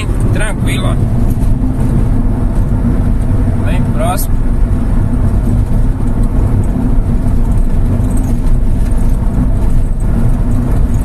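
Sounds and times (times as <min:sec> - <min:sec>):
car engine cruising: 0:00.0 - 0:11.0
road noise: 0:00.0 - 0:11.0.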